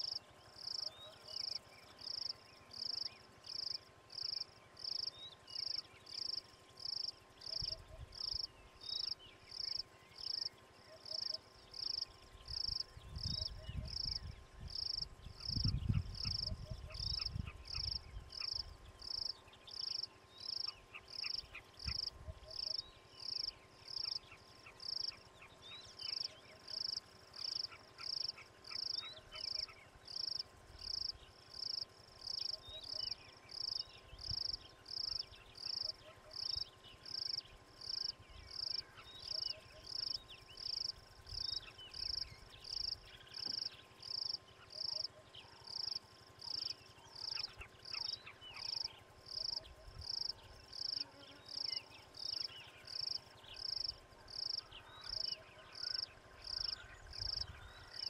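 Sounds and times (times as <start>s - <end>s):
faint bird chirps: 0.0s - 58.0s
insect high-pitched pulsing call: 0.0s - 58.0s.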